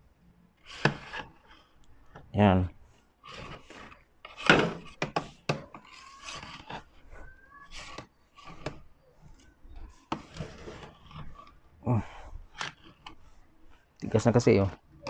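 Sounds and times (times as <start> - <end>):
metal paddle scraping ice cream: 0.6 - 2.2, 3.2 - 15.0.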